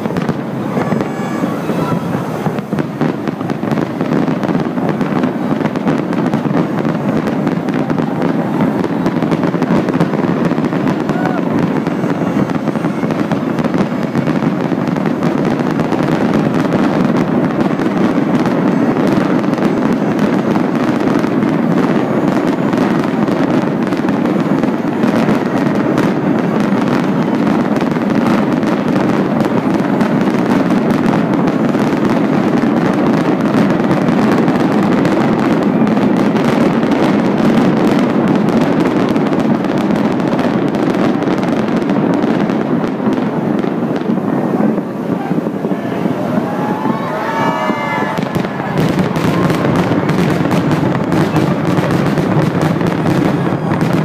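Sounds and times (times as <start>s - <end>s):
fireworks barrage: 0.0s - 54.0s.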